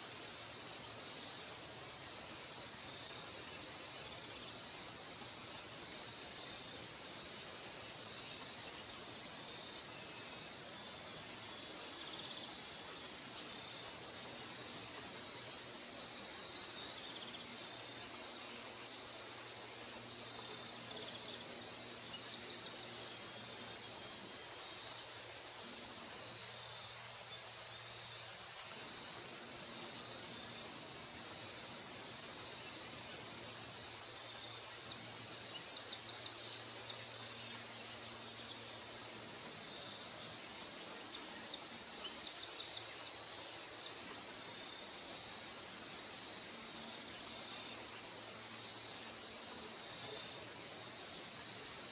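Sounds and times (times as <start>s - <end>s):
insects chirping: 0.0s - 51.9s
steady background hiss: 0.0s - 51.9s.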